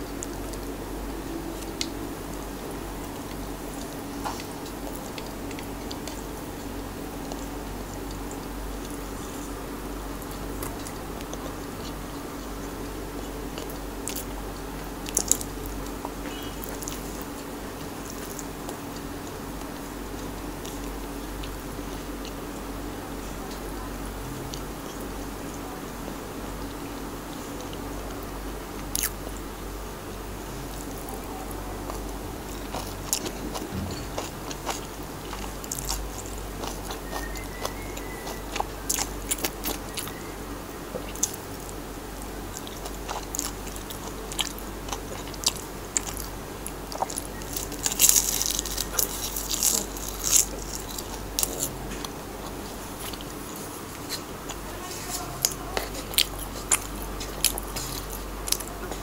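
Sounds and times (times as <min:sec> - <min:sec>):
crunching and chewing food: 0:00.0 - 0:59.0.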